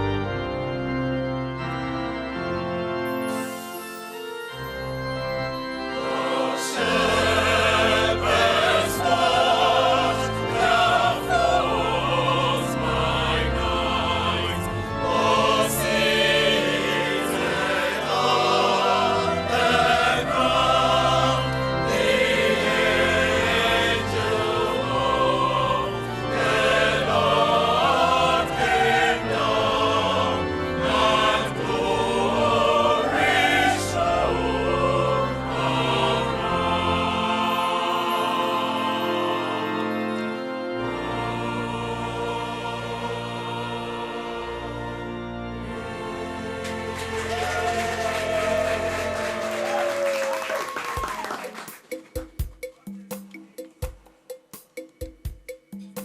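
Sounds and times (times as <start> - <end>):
choir singing in harmony: 0.0 - 50.7
keyboard accompaniment: 0.0 - 56.0.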